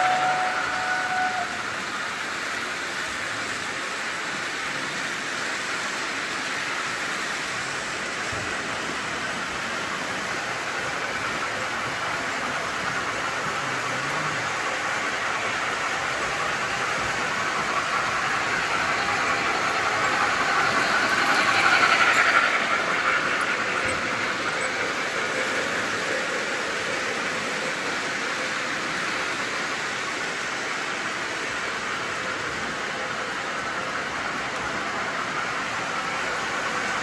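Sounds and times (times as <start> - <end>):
model train rolling on track: 0.0 - 37.0.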